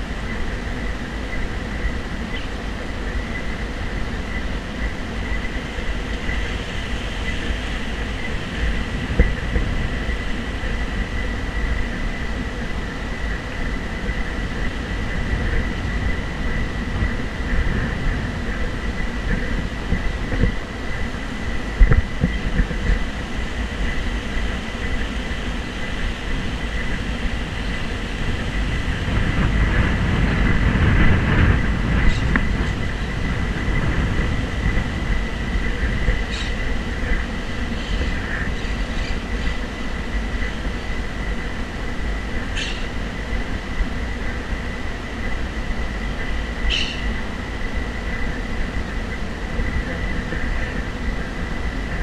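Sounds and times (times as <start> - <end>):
thin steady high whine: 0.0 - 52.0
wind rumbling on microphone: 0.0 - 52.0.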